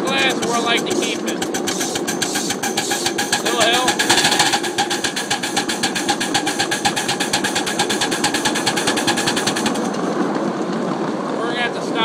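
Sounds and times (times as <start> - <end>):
steam locomotive exhaust chuffing: 0.0 - 10.2.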